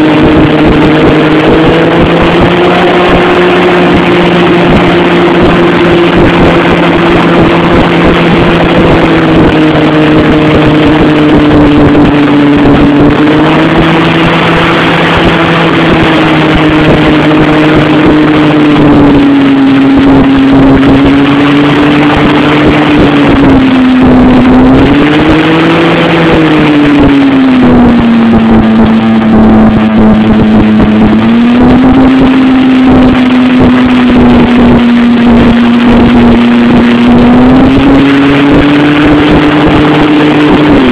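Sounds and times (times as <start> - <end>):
hovercraft engine and fans: 0.0 - 40.9.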